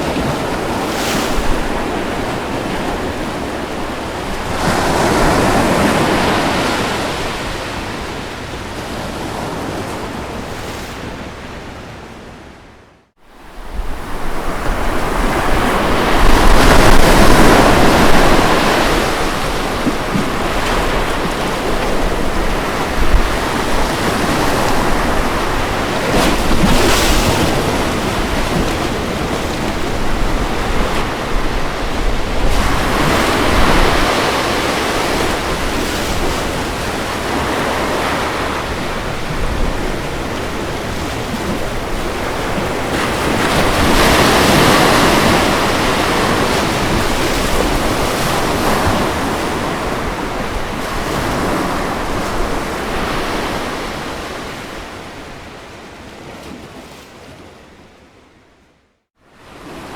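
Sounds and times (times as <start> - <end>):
wind noise on microphone: 0.0 - 11.7, 13.3 - 55.6
ocean waves breaking on beach: 0.0 - 58.3, 59.2 - 59.9.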